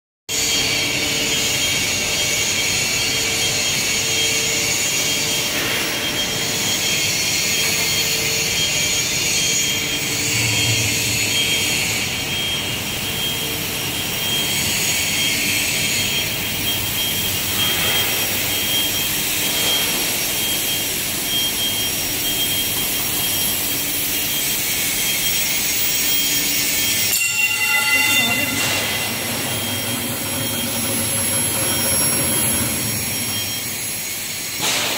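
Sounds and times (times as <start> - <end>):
thin steady whine: 0.6 - 34.6.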